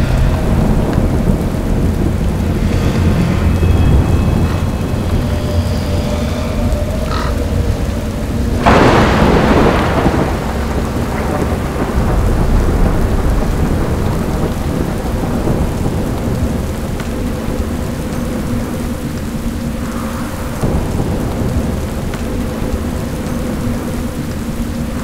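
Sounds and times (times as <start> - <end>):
low rumble: 0.0 - 25.0
steady rain: 0.0 - 25.0
thunderclap: 0.0 - 25.0.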